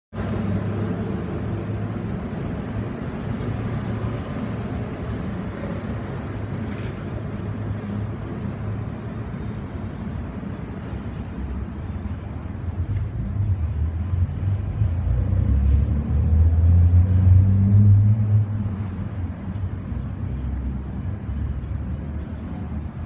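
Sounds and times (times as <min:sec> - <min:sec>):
cars passing: 0:00.1 - 0:23.0.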